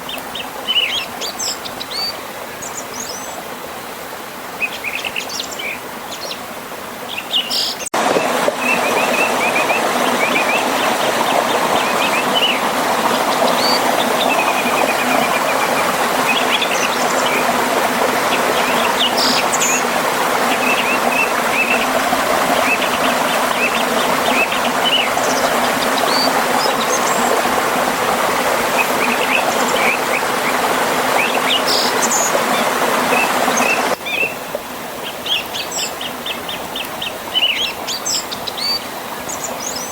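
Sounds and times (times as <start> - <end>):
songbirds chirping: 0.0 - 3.5, 4.4 - 39.9
river and small waterfall rushing: 0.0 - 39.9.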